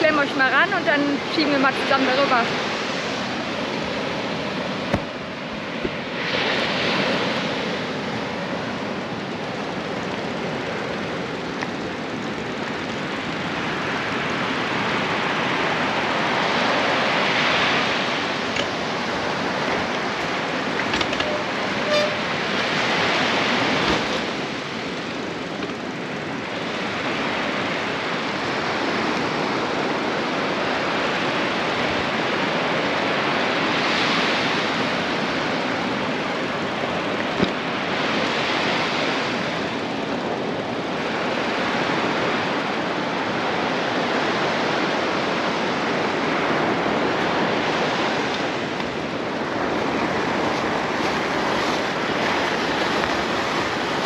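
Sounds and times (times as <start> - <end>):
surf breaking on beach: 0.0 - 54.0.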